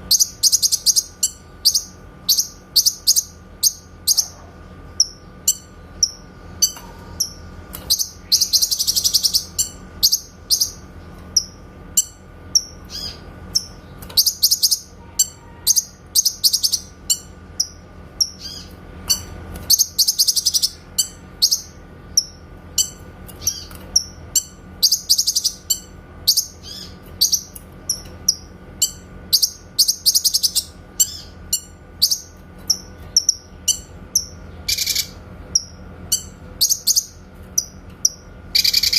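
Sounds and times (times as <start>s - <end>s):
bird trills: 0.0s - 4.4s, 5.0s - 38.9s.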